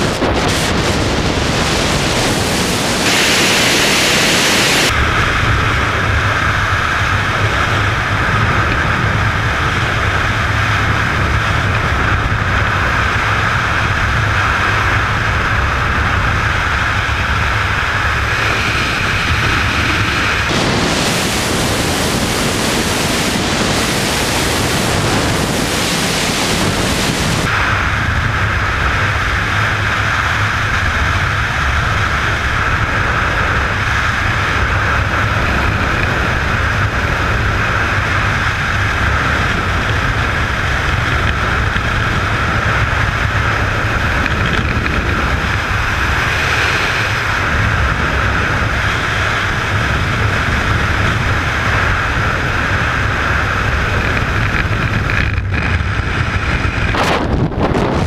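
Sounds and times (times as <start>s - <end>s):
freefall wind buffeting microphone: 0.0s - 58.0s.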